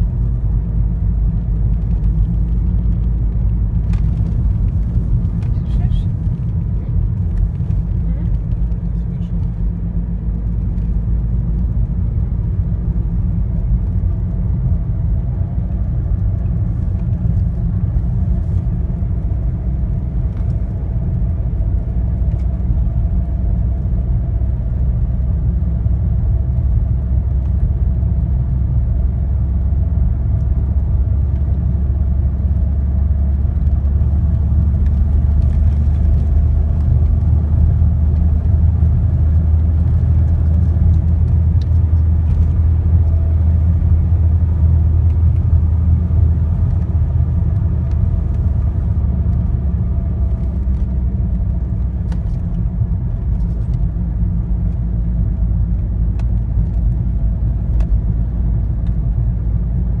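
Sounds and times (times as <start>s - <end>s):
car engine and road noise: 0.0s - 60.0s.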